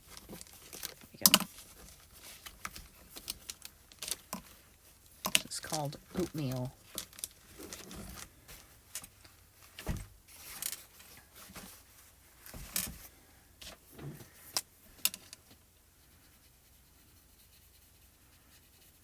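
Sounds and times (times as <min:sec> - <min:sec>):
paper rustling: 0:00.0 - 0:15.6.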